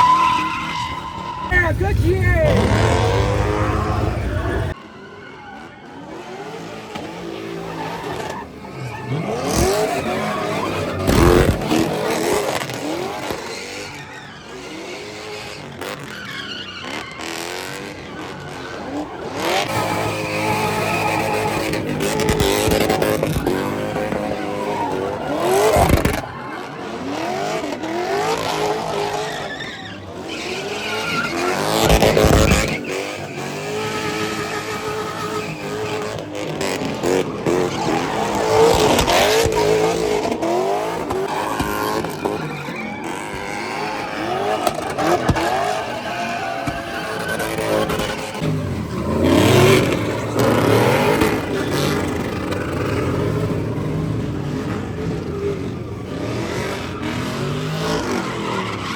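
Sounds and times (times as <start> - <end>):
tyres squealing: 0.0 - 5.6, 7.5 - 58.9
car engines revving: 0.0 - 58.9.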